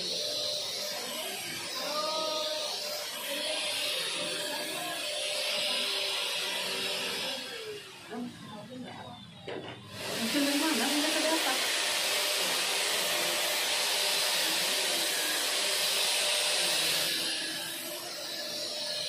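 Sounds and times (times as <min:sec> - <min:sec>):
vacuum cleaner on synthetic grass: 0:00.0 - 0:08.8, 0:09.9 - 0:19.0.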